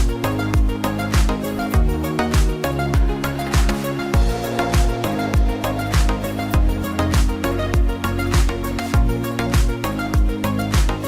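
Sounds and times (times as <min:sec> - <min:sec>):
electronic kick drum: 0:00.0 - 0:11.0
held bass and melody notes: 0:00.0 - 0:11.0.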